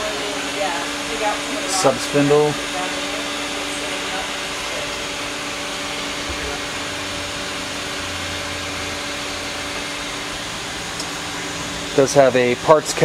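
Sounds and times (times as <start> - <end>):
constant hum tones: 0.0 - 13.0
machinery fan whirr: 0.0 - 13.0.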